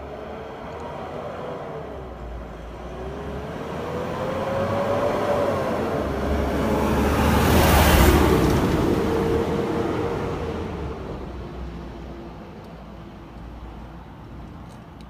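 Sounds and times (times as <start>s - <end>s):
vehicle approaching: 0.0s - 14.7s.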